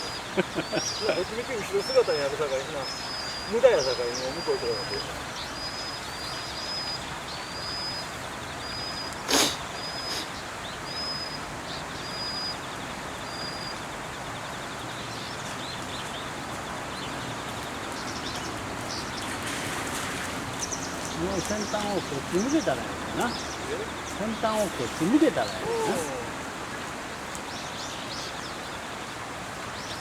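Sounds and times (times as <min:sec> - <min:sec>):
steady background hiss: 0:00.0 - 0:15.3, 0:16.6 - 0:30.0.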